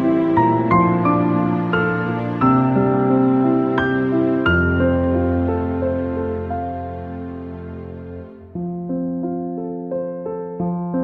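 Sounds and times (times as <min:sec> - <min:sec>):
slow gentle background music: 0:00.0 - 0:11.0.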